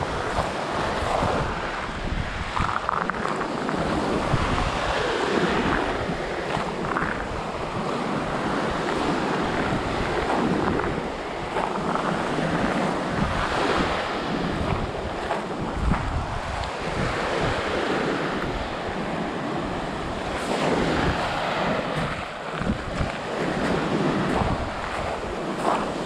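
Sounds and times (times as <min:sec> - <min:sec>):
small waves breaking on shore: 0:00.0 - 0:26.0
wind rumbling on the microphone: 0:00.0 - 0:26.0.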